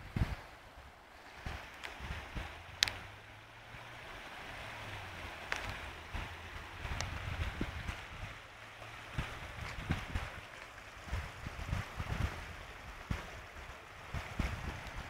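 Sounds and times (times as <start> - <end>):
rainwater rushing: 0.0 - 15.0
wind rumbling on microphone: 0.0 - 15.0.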